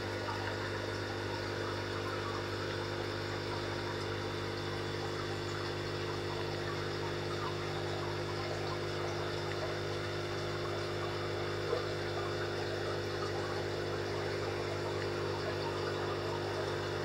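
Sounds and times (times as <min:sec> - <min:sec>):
aquarium filter pump humming: 0:00.0 - 0:17.0
water trickling and bubbling: 0:00.0 - 0:17.0.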